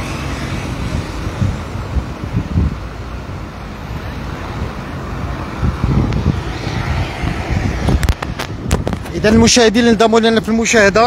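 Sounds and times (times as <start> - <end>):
cars passing at low speed: 0.0 - 11.0
wind buffeting microphone: 0.0 - 11.0.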